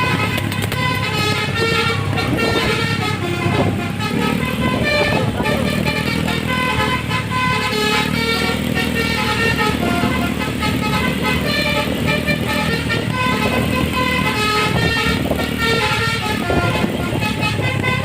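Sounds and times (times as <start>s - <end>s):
low bus engine rumble: 0.0s - 18.0s
musical bus horn tune: 0.0s - 18.0s.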